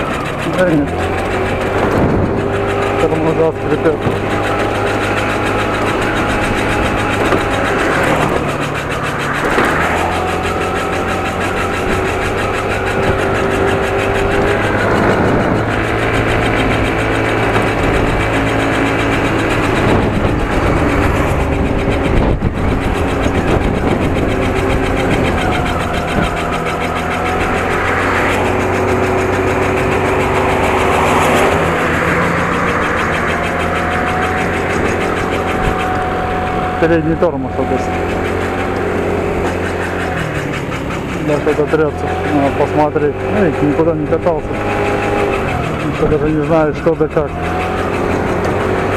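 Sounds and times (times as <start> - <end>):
brakes squeaking: 0.0 - 48.9
motorcycle engine running: 0.0 - 48.9.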